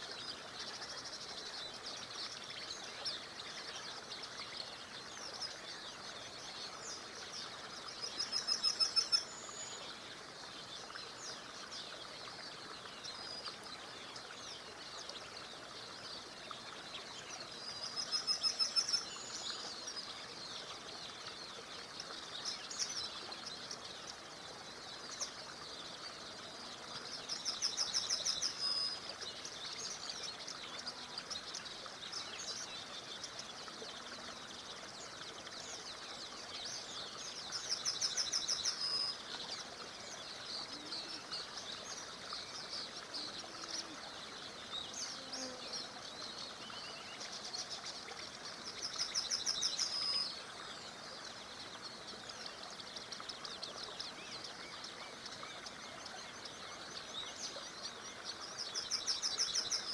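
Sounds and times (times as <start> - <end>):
small river hissing: 0.0 - 59.9.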